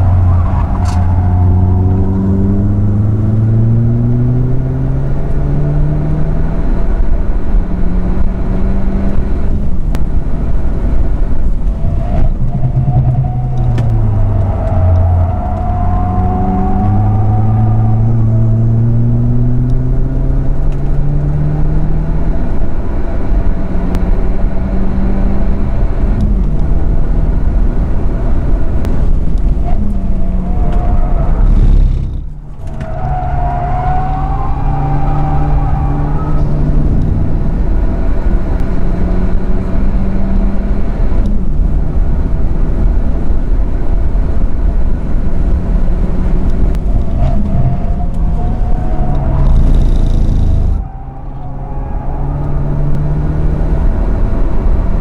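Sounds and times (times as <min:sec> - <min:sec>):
race car engine accelerating: 0:00.0 - 0:43.8, 0:45.0 - 0:55.0.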